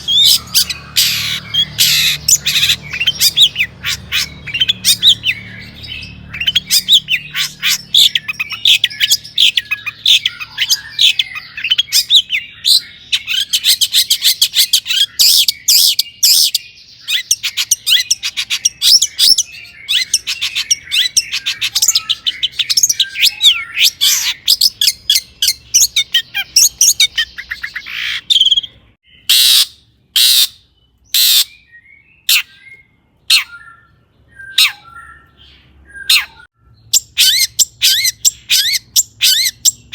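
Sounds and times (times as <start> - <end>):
bird singing fast chatter: 0.0 - 39.9
harsh rasping bird calls: 0.0 - 39.9.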